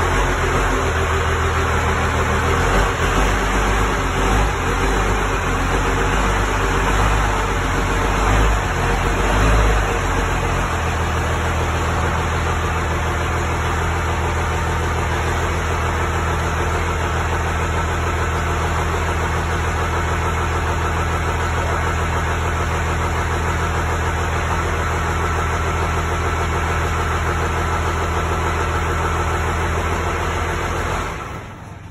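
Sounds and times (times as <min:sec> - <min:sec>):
large engine idling: 0:00.0 - 0:31.9.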